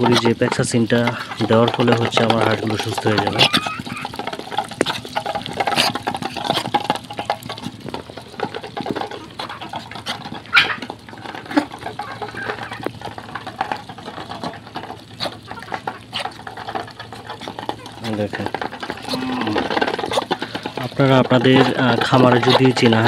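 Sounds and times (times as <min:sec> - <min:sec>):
ducks pecking feed in metal bowl: 0:00.0 - 0:23.0.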